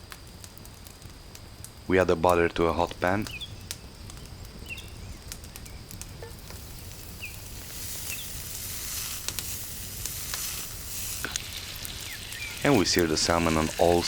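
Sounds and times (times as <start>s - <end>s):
butter sizzling in a pan: 0.0s - 14.0s.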